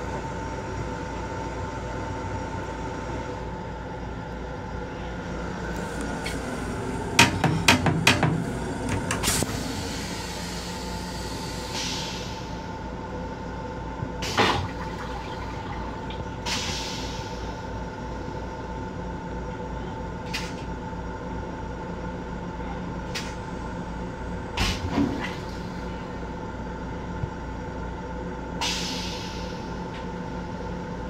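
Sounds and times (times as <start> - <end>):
electric railcar hum: 0.0 - 31.0.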